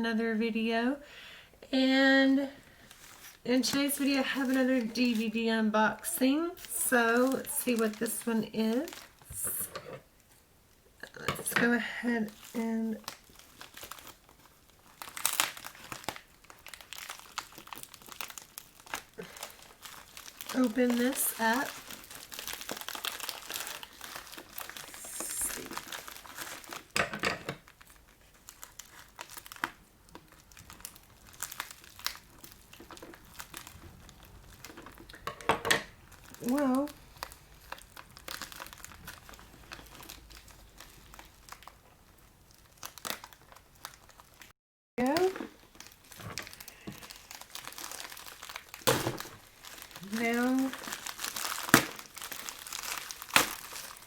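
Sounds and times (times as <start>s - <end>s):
packaging crinkling: 2.6s - 10.3s, 11.2s - 54.0s.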